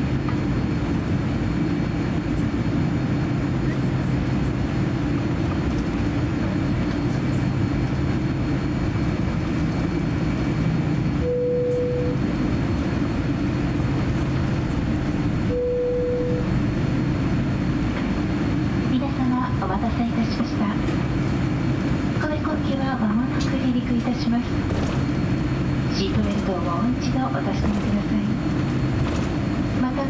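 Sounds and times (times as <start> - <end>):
airliner cabin low rumble: 0.0 - 30.0.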